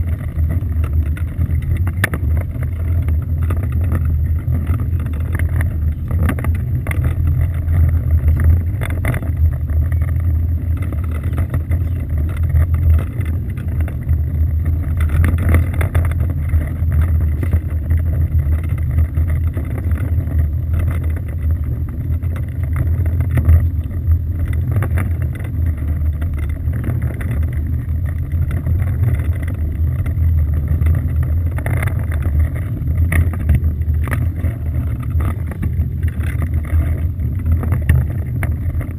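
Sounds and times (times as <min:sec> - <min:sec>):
motorboat engine rumble: 0:00.0 - 0:38.9
wind: 0:00.0 - 0:38.9.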